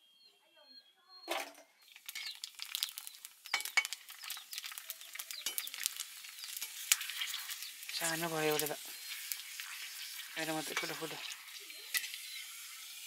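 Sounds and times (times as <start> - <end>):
food deep-frying in hot oil: 1.8 - 13.0.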